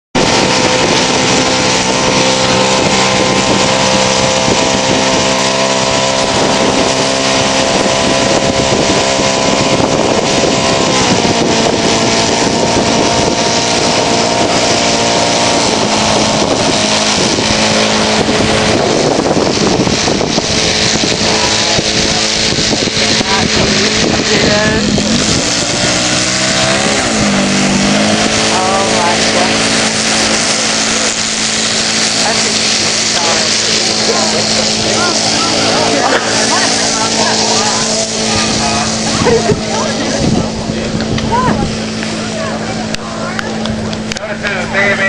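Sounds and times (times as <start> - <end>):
model aircraft engine running: 0.1 - 45.0.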